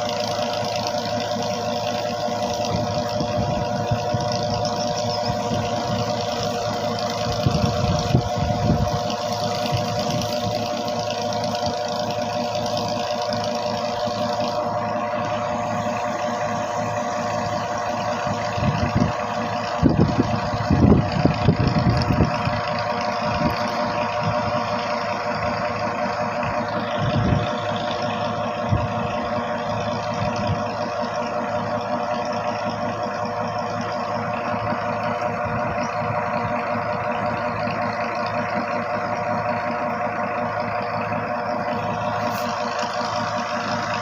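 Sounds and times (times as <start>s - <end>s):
engine humming: 0.0s - 44.0s.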